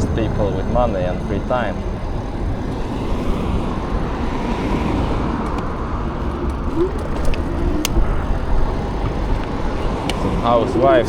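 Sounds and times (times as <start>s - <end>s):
road noise: 0.0s - 11.0s
wind rush: 0.0s - 11.0s.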